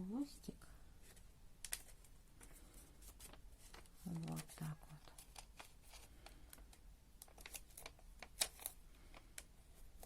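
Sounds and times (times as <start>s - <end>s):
paper crackling: 1.6s - 10.0s.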